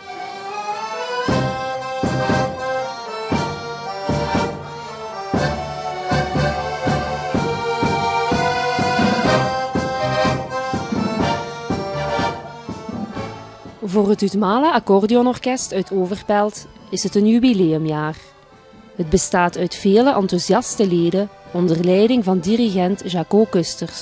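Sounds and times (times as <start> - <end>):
accordion orchestra playing: 0.0 - 24.0.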